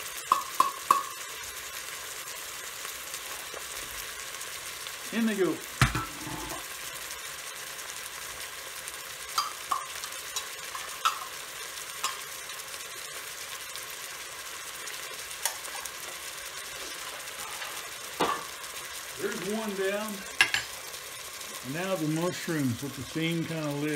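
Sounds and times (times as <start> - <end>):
food sizzling in a pot: 0.0 - 23.9.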